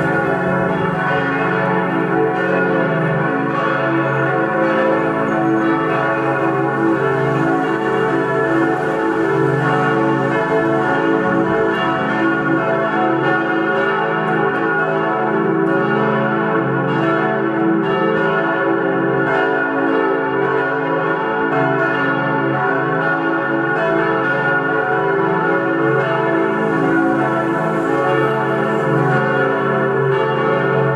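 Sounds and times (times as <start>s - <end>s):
church bells ringing: 0.0s - 30.9s.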